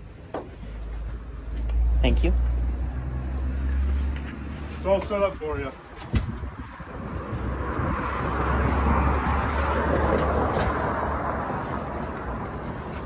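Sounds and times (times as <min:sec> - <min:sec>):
vehicle passing: 0:00.7 - 0:13.0.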